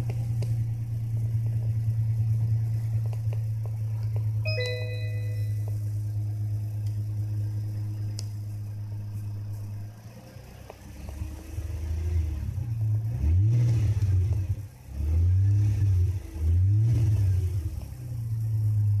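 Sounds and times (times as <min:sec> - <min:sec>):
throttle blips revving engine: 0:00.0 - 0:09.0, 0:09.8 - 0:19.0
car engine idling: 0:00.0 - 0:19.0.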